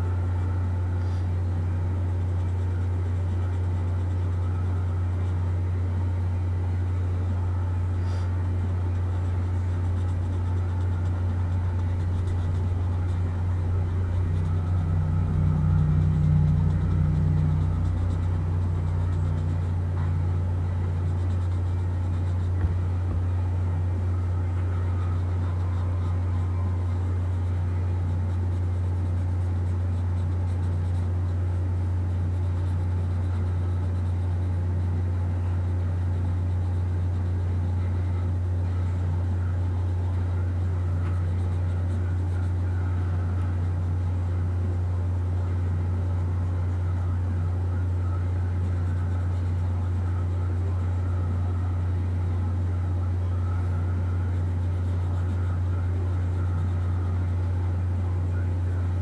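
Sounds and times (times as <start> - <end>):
steady deep hum: 0.0 - 59.0.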